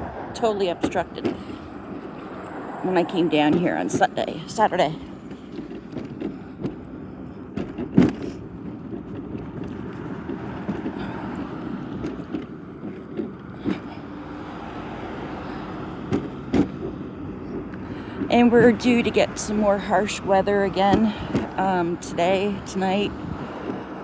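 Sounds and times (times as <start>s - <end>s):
car road noise: 0.0s - 24.0s.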